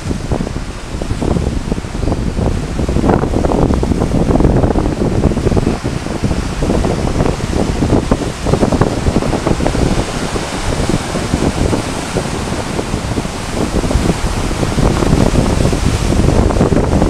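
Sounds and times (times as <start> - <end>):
surf breaking over rocks: 0.0 - 17.0
wind buffeting microphone: 0.0 - 17.0.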